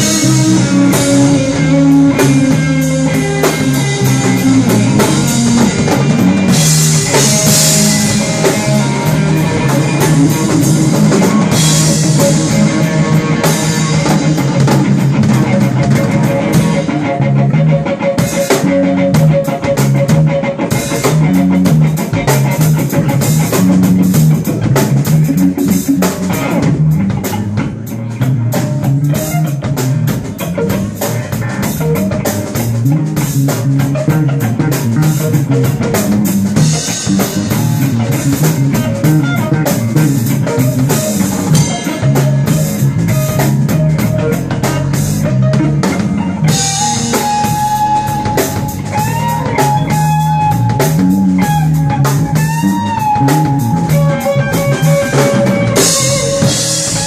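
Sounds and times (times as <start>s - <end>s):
drum kit beat: 0.0s - 57.0s
electric bass: 0.0s - 57.0s
electric guitar: 0.0s - 57.0s.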